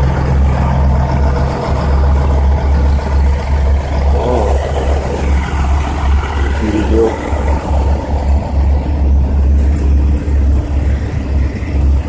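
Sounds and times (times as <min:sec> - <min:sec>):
diesel truck engines idling: 0:00.0 - 0:12.0.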